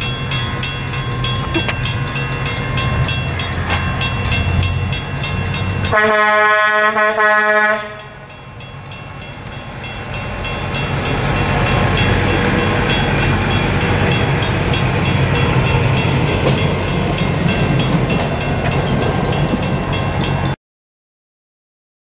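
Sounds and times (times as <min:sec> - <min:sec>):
wheels clicking on rails: 0:00.0 - 0:06.4, 0:07.9 - 0:20.6.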